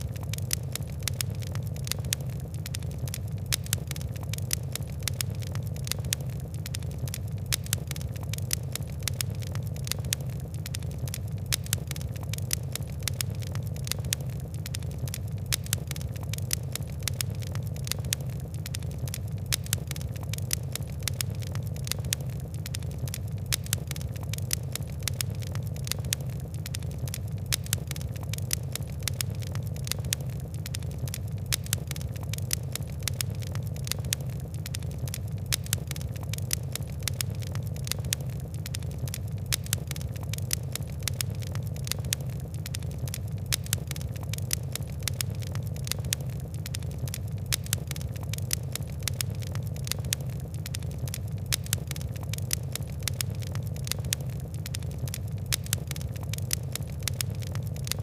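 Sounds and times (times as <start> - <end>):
fire crackling: 0.0 - 58.0
steady low rumble: 0.0 - 58.0.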